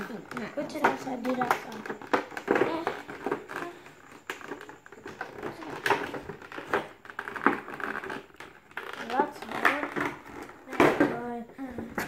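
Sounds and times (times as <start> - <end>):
plastic packaging clicks and crackles: 0.0 - 11.3.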